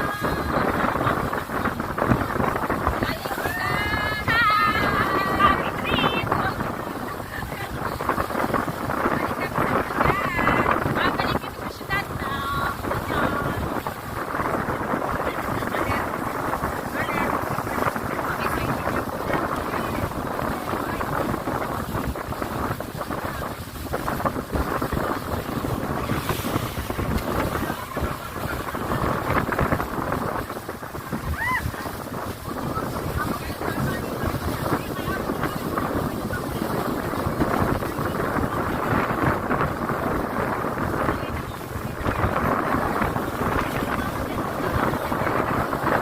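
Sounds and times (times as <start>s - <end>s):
water rushing along hull: 0.0s - 46.0s
wind buffeting microphone: 0.0s - 46.0s.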